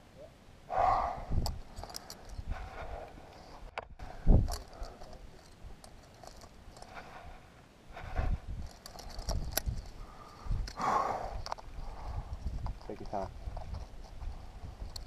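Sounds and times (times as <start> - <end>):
metal climbing gear clinking: 1.4 - 15.0.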